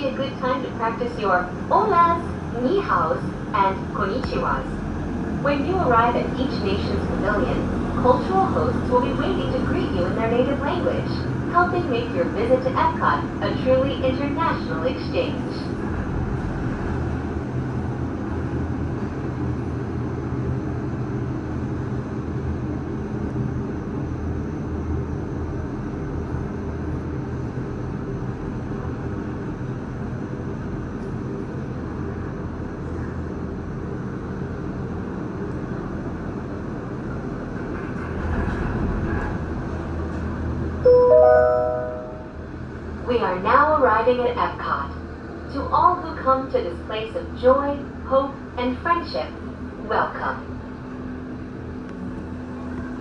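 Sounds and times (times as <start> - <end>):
gondola cabin rumble and hum: 0.0 - 40.8, 41.8 - 53.0.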